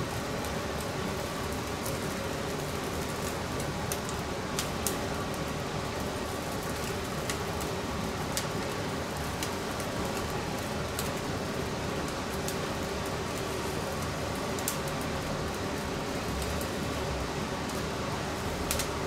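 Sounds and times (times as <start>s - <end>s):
fire crackling and popping: 0.0s - 19.0s
straw fire rushing: 0.0s - 19.0s.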